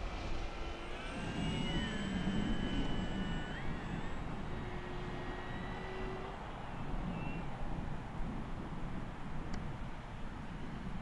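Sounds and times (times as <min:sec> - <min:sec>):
model plane motor whine: 0:00.0 - 0:11.0
wind rumbling on microphone: 0:00.0 - 0:11.0.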